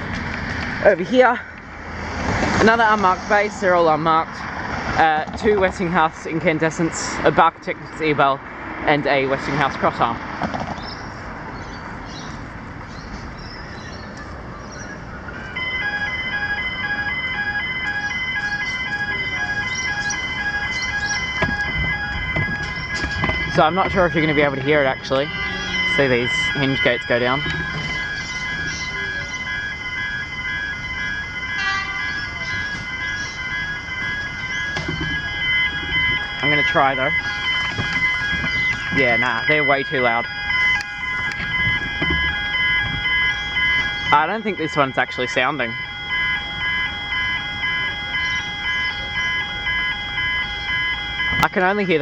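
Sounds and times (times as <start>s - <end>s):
crossing alarm alternating tones: 0.0s - 52.0s
street traffic hum: 0.0s - 52.0s.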